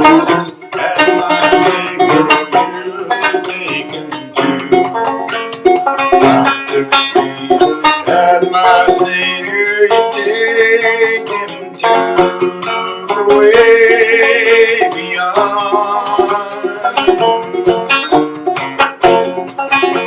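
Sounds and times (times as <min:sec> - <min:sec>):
banjo playing: 0:00.0 - 0:20.0.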